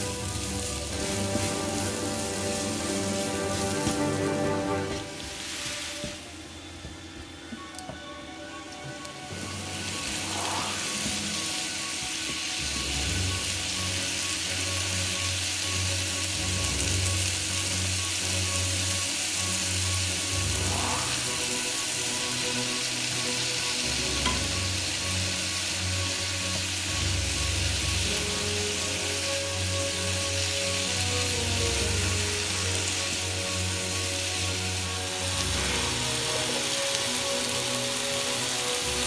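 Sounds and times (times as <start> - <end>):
vegetables sizzling in a frying pan: 0.0 - 6.2, 9.3 - 39.0.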